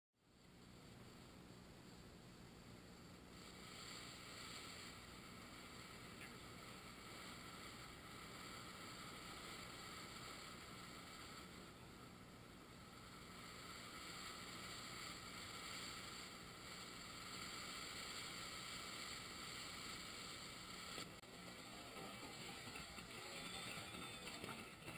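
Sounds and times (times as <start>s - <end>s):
fountain firework hissing: 0.2s - 24.9s.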